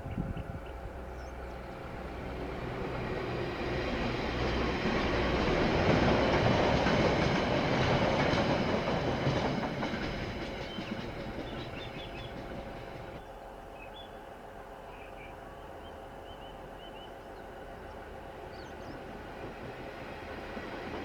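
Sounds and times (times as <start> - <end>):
train passing on rails: 0.0 - 21.0.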